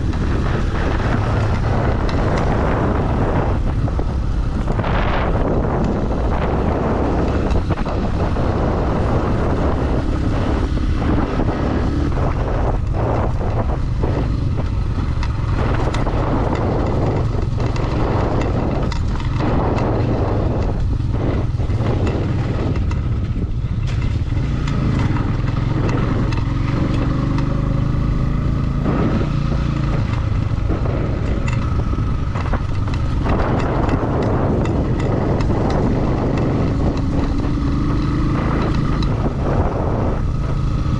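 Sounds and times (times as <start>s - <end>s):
knocks and rattles: 0.0s - 27.5s, 28.8s - 40.9s
motorcycle engine running: 0.0s - 40.9s.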